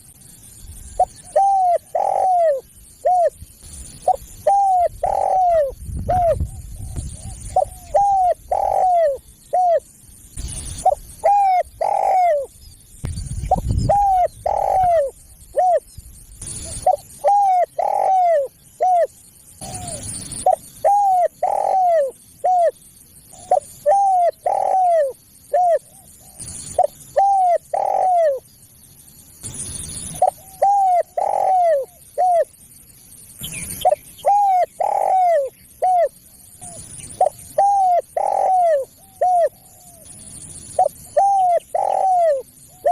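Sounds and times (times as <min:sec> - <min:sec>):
dove cooing: 0:01.0 - 0:12.5, 0:13.5 - 0:28.4, 0:30.0 - 0:32.6, 0:33.7 - 0:42.9.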